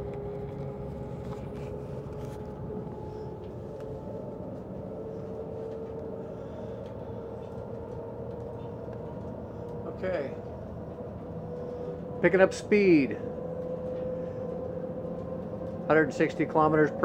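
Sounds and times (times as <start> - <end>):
train cabin low rumble: 0.0 - 17.0.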